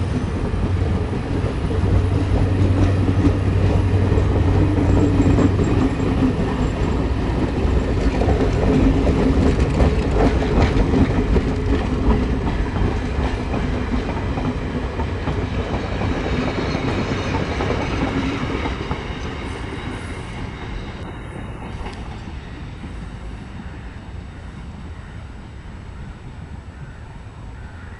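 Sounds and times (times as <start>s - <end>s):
train wheels clattering on track: 0.0s - 25.0s.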